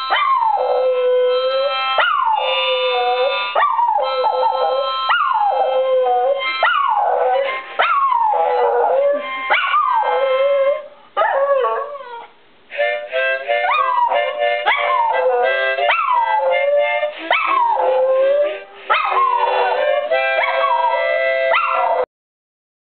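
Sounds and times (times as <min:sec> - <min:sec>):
music with long held notes: 0:00.0 - 0:11.0, 0:12.7 - 0:22.0
dog howling: 0:00.1 - 0:12.3, 0:13.6 - 0:22.1.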